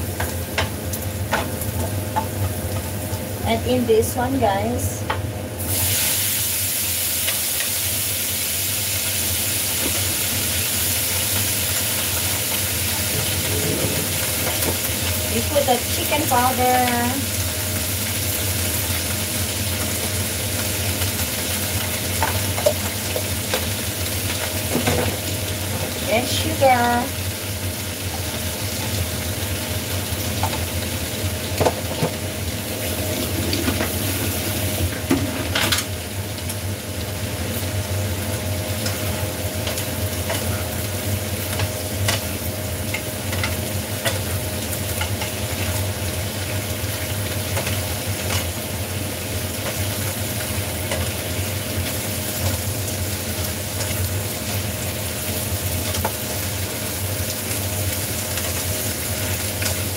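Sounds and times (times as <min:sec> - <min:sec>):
cabbage sizzling in a wok: 0:00.0 - 0:59.9.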